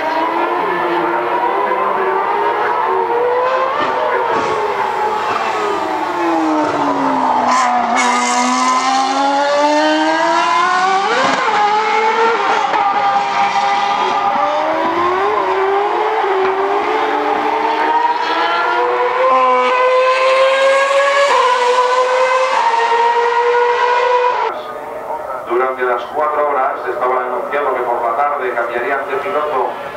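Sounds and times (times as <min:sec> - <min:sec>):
racing car engine at high revs: 0:00.0 - 0:24.5.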